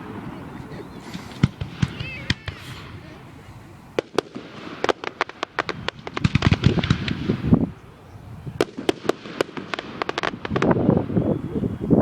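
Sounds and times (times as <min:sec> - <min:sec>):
fireworks cracking and banging: 0:00.0 - 0:07.8, 0:08.6 - 0:11.1.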